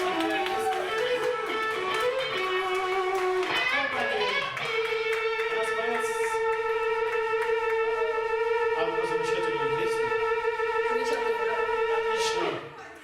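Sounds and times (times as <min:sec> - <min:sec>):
electric guitar: 0:00.0 - 0:12.9.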